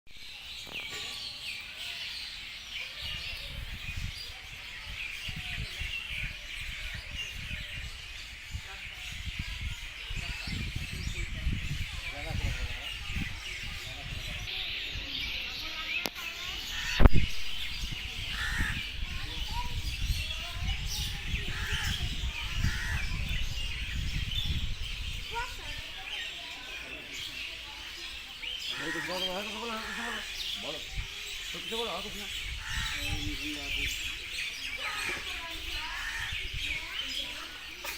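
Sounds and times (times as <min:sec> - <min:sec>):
small birds chirping: 0:00.1 - 0:37.9.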